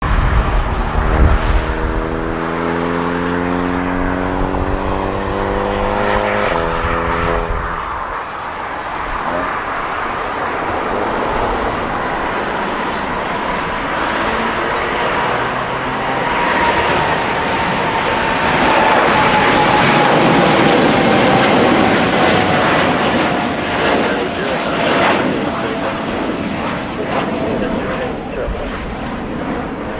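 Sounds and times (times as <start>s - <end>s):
jet engines spooling up: 0.1s - 29.9s.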